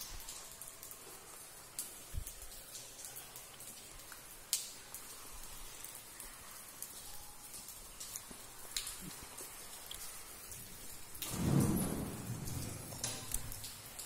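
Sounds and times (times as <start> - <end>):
faint running water hiss: 0.0 - 14.0
water dripping on stone: 0.0 - 14.0.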